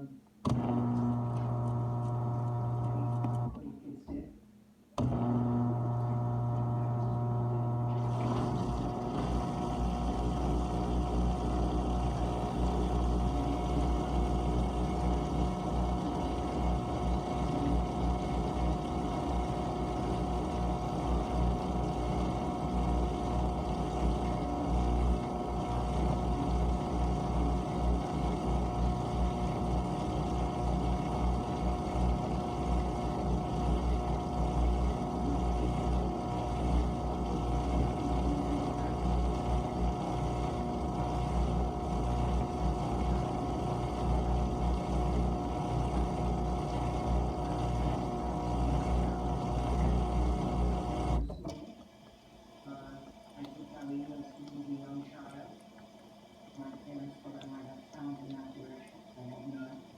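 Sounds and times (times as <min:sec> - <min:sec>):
dishwasher pump motor hum: 0:00.4 - 0:04.2, 0:05.0 - 0:59.9
water circulating rumble: 0:05.2 - 0:59.9.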